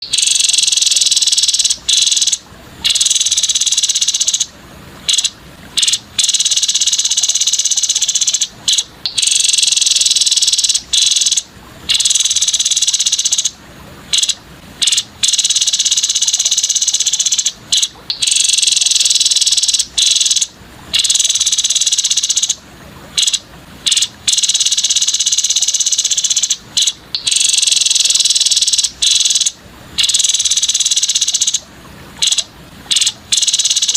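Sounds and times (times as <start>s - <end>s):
bird buzzy trills: 0.0s - 33.9s.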